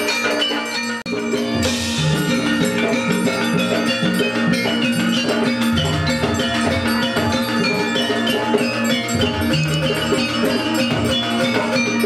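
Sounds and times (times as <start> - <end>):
metallophones ringing: 0.0 - 12.0
hand drum strokes: 1.1 - 12.0.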